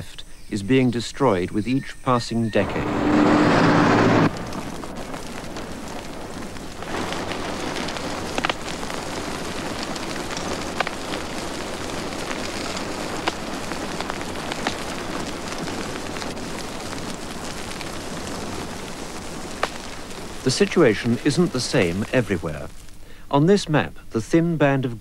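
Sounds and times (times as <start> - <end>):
burning wood popping: 0.0 - 25.0
fire burning and crackling: 2.3 - 25.0.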